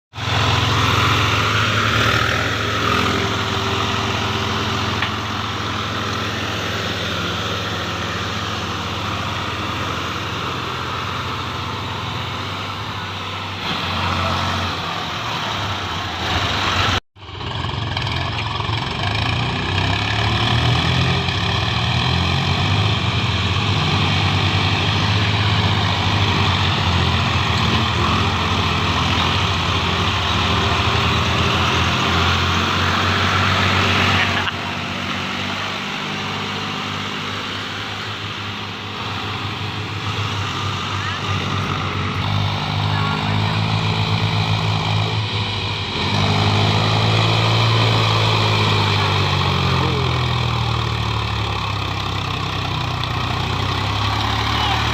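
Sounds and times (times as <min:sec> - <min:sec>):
tractor diesel engine running: 0:00.1 - 0:54.9.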